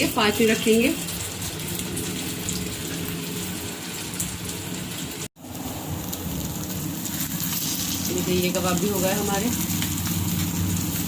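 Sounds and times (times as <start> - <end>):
kebabs sizzling in hot oil: 0.0 - 11.0.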